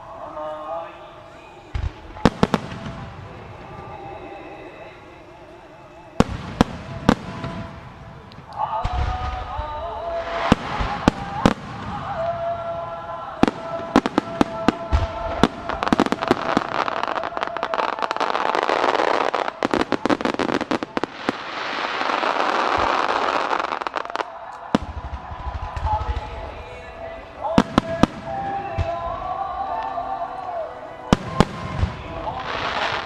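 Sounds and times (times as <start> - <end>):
dense firework crackling: 1.6 - 33.0.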